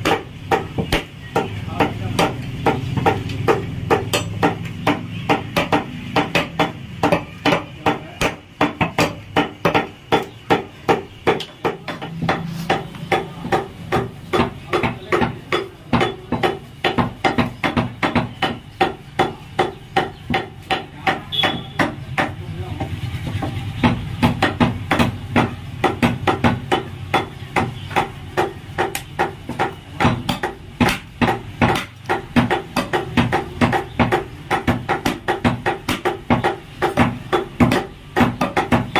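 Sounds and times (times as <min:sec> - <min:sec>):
cleaver chopping meat and bone: 0:00.0 - 0:38.9.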